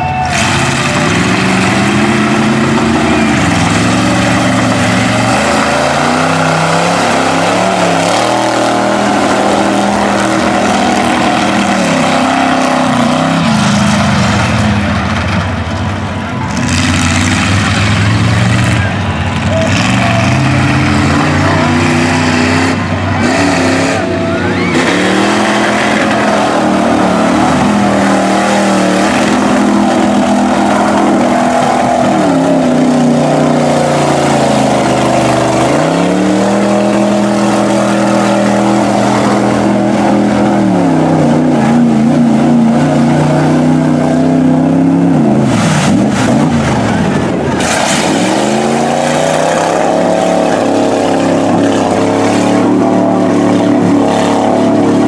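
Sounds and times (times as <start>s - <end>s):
tires ploughing through mud: 0.0s - 55.0s
truck engine revving: 0.0s - 55.0s.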